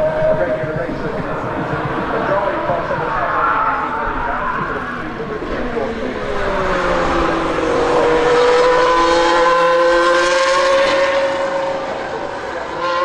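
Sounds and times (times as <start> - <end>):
race car engine driving by: 0.0 - 13.0.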